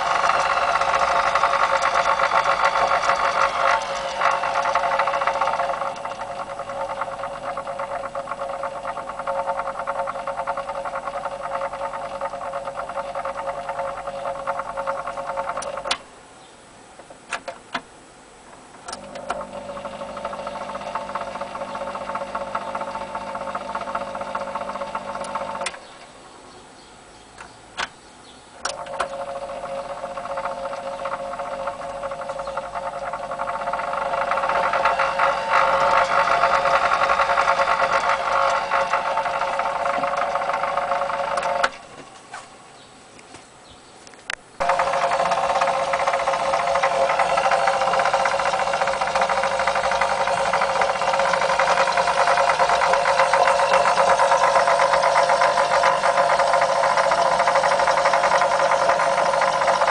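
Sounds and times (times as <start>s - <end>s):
spinning machine whirring hum: 0.0s - 16.0s, 18.8s - 26.1s, 28.6s - 42.7s, 44.6s - 59.9s.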